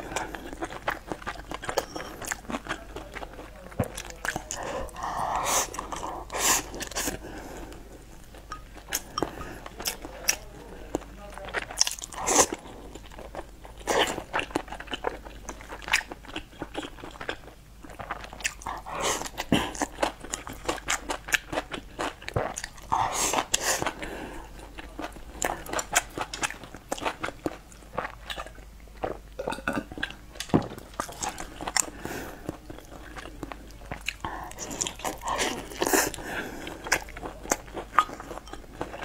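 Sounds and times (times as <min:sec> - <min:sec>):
close chewing and mouth sounds: 0:00.0 - 0:39.0.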